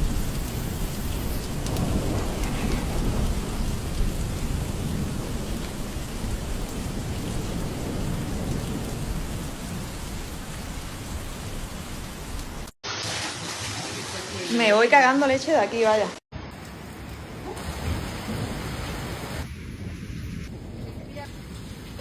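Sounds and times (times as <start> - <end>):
torrential rain hiss: 0.0 - 12.7, 16.4 - 22.0.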